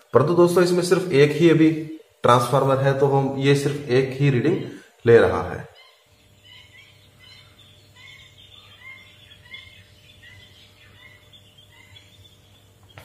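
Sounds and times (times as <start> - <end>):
faint birds chirping: 0.0 - 13.0
steady low hum: 0.0 - 13.0.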